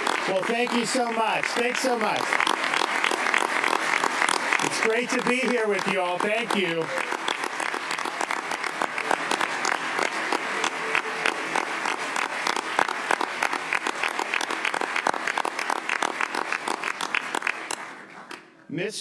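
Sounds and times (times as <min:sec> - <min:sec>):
crowd applauding: 0:00.0 - 0:18.5.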